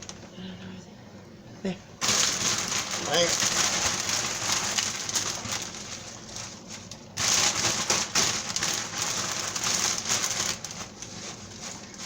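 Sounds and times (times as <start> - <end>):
greens crackling in a pot: 2.0 - 12.0.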